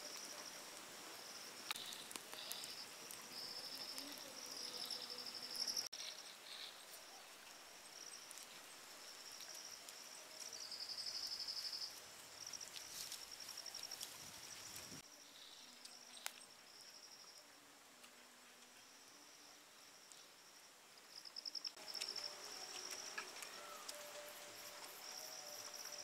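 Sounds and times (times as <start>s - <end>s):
insects trilling: 0.0s - 17.6s, 18.2s - 26.0s.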